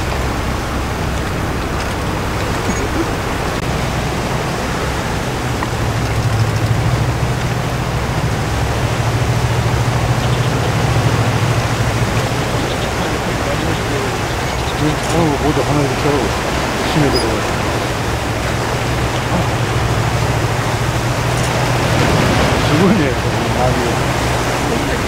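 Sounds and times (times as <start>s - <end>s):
low hum of ship: 0.0s - 25.0s.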